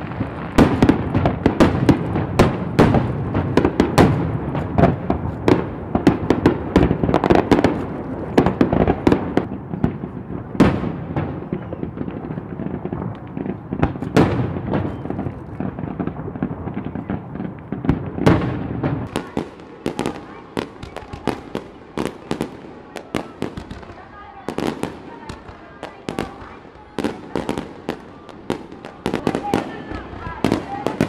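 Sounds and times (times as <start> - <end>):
firework crackling: 0.0 - 31.0
loud firework booms: 0.0 - 31.0.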